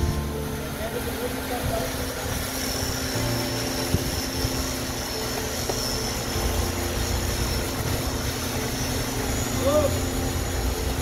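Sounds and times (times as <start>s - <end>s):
diesel crane engine droning: 0.0s - 11.0s
faint high whine: 0.0s - 11.0s.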